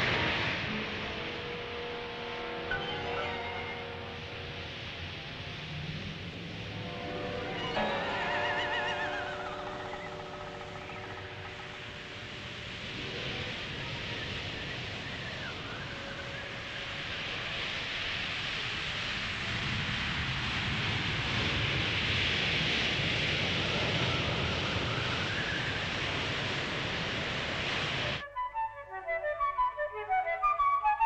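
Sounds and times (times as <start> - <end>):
faint high whistling glide: 0.0 - 20.2, 21.5 - 31.0
steady rushing noise: 0.0 - 28.2.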